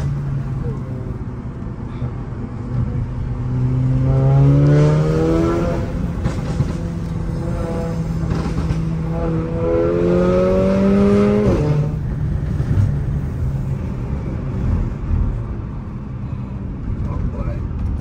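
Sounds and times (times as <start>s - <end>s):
car engine accelerating: 0.0s - 17.0s
road noise: 0.0s - 18.0s.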